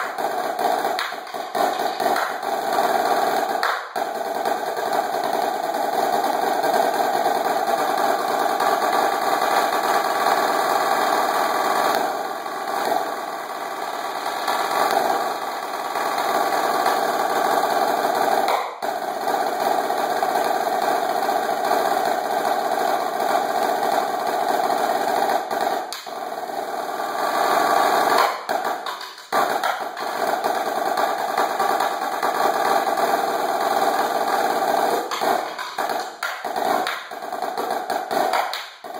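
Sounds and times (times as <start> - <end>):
snare drum rolls: 0.0 - 38.9.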